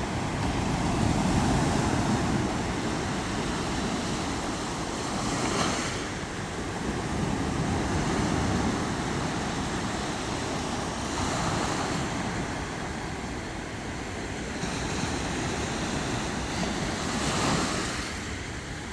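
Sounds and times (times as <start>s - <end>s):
sea waves washing onto shore: 0.0s - 18.9s
wind rumbling on microphone: 0.0s - 18.9s.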